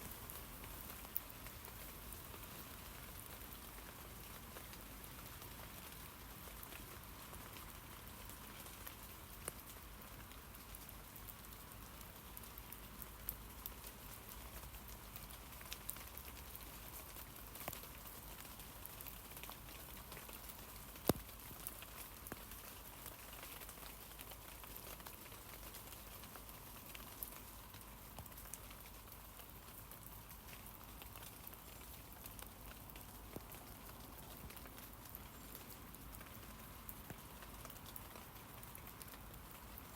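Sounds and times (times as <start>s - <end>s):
rain on tree leaves: 0.0s - 39.9s.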